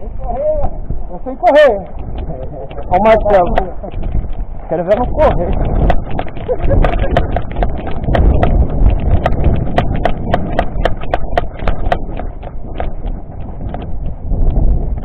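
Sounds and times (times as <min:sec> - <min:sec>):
microphone handling noise: 0:00.0 - 0:15.0
wind rumble: 0:00.0 - 0:15.0
quick running footsteps: 0:00.7 - 0:15.0.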